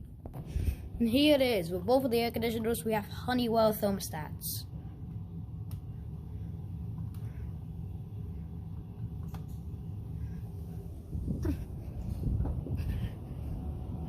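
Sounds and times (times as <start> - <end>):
furnace blower rumble: 0.0 - 14.0.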